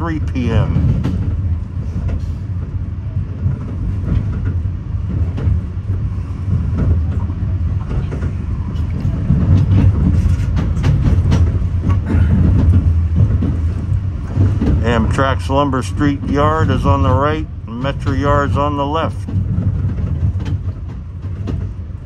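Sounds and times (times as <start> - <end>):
train wheels rumbling: 0.0 - 22.0
wheels clicking over rail joints: 0.0 - 22.0.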